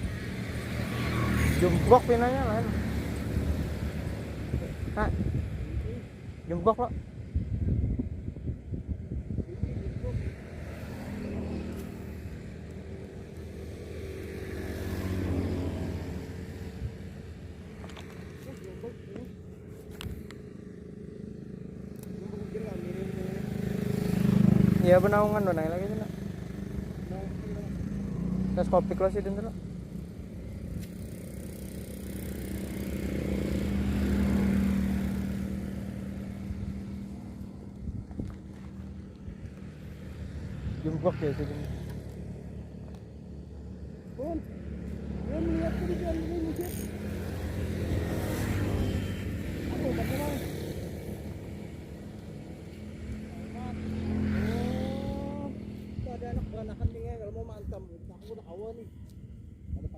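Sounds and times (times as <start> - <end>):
engine passing by: 0.0 - 6.8, 9.3 - 59.9.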